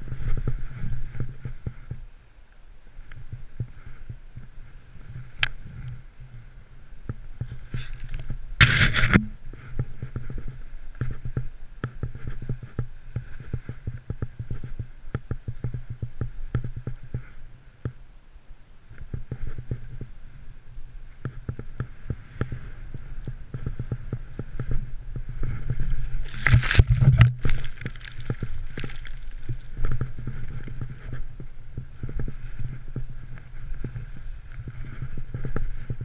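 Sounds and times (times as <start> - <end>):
muffled snowboard rumble: 0.0 - 36.0.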